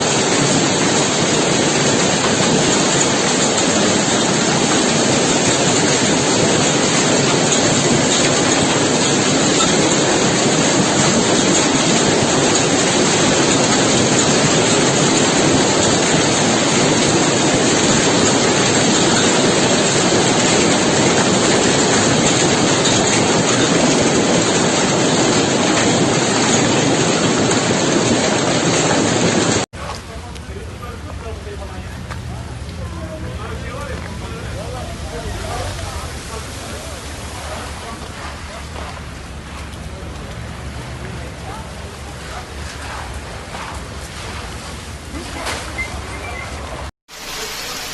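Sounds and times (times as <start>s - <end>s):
heavy rain hissing: 0.0s - 47.9s.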